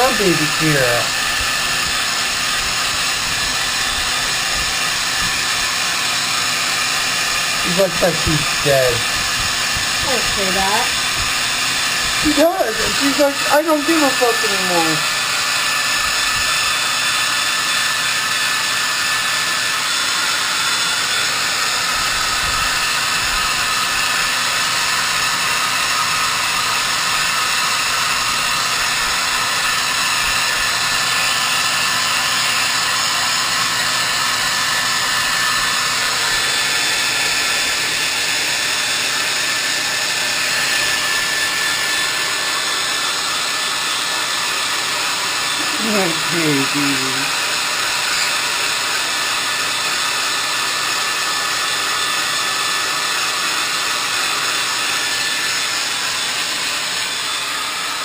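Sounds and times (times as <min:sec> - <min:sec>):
hair dryer blowing: 0:00.0 - 0:58.0.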